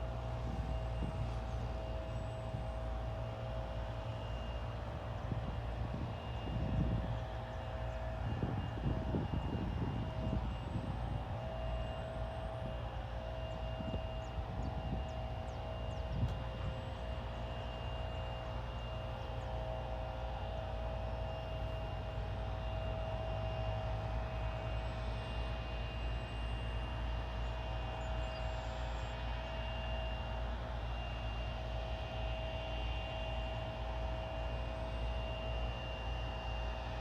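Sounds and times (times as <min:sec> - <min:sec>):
jet engine whining tones: 0:00.0 - 0:37.0
jet engines rumbling: 0:00.0 - 0:37.0.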